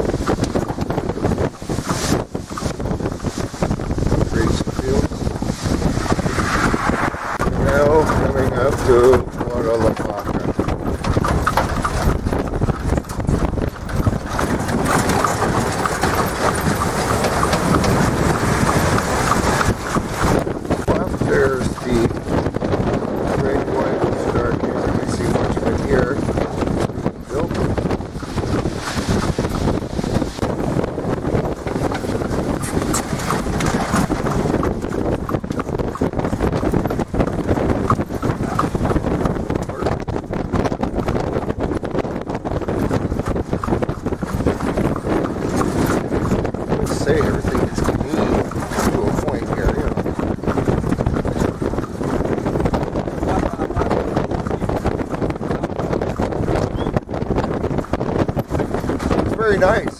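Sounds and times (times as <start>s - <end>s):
horse hooves clip-clopping on pavement: 0.0s - 59.9s
horse-drawn buggy rumbling and rattling: 0.0s - 59.9s
wind on microphone: 0.0s - 59.9s.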